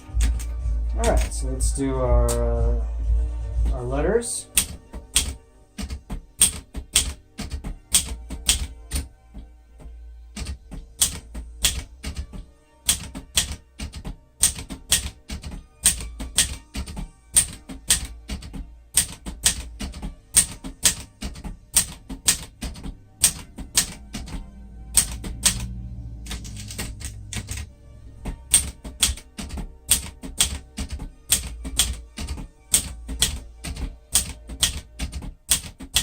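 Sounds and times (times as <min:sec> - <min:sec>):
manual typewriter keystroke clacks: 0:00.0 - 0:01.4, 0:04.5 - 0:09.1, 0:10.4 - 0:25.7, 0:26.3 - 0:27.7, 0:28.5 - 0:36.0.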